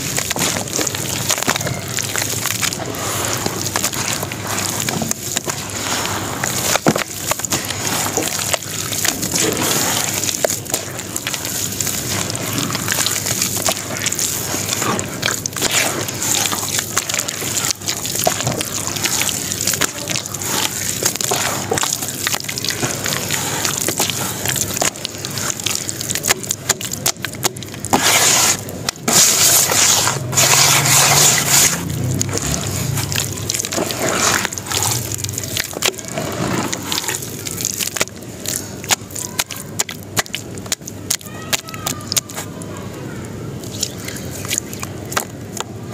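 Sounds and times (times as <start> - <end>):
hands squelching wet slurry: 0.0 - 45.9.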